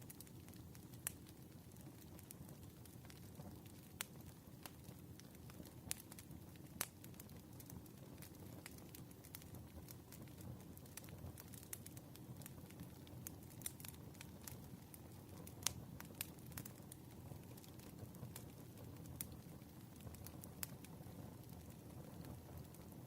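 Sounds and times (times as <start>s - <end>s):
fire flames rumbling: 0.0s - 23.0s
firewood crackling and popping: 0.0s - 23.0s.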